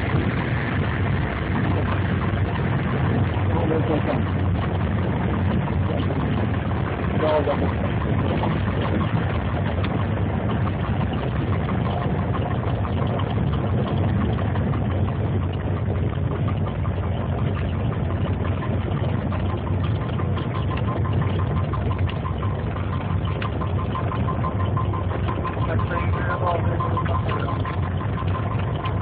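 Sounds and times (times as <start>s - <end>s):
aircraft piston engine idling: 0.0s - 29.0s.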